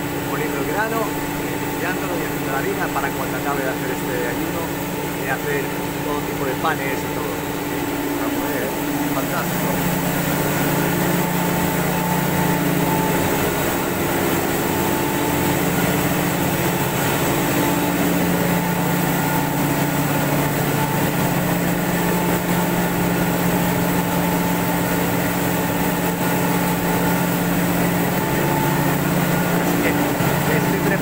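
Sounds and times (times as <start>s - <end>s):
milling machinery hum: 0.0s - 31.0s.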